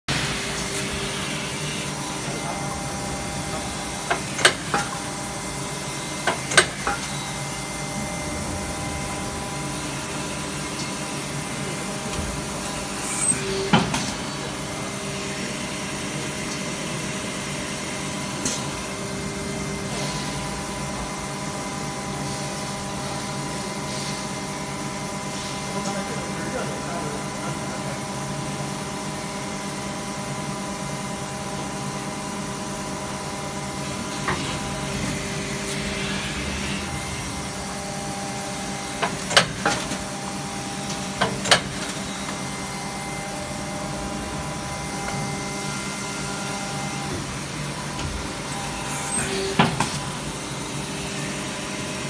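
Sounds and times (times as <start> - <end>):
machine hum with level tones: 0.1 - 52.0.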